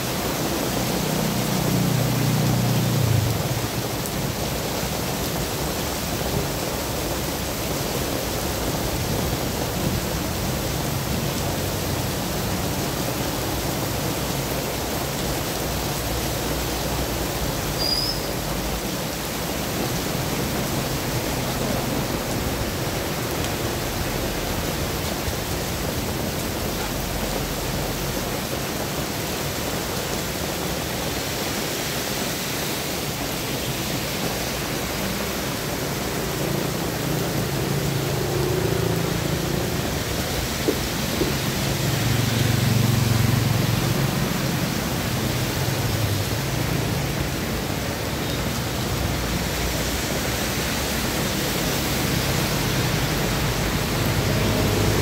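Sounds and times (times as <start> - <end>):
heavy rain on a wet road: 0.0 - 55.0
low hum of traffic: 0.0 - 55.0.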